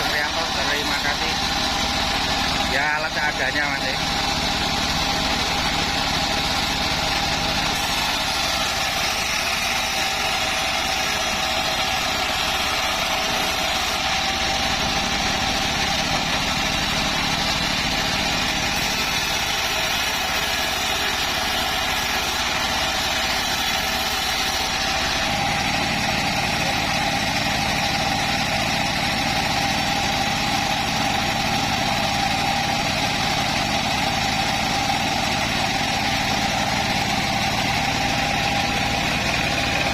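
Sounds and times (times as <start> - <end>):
bandsaw sawmill running: 0.0 - 39.9
steady mechanical whine: 0.0 - 39.9.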